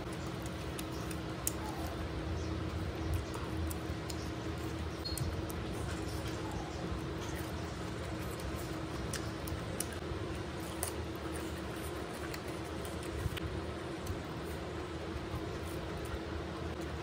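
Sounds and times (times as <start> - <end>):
chewing with mouth clicks: 0.0 - 17.0
steady background hum: 0.0 - 17.0.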